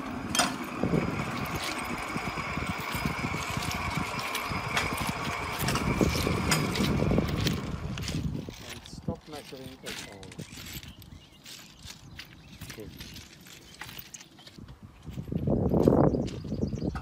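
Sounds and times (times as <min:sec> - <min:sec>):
trolley wheels rattling on rails: 0:00.0 - 0:14.6
footsteps crunching on ballast: 0:00.4 - 0:17.0.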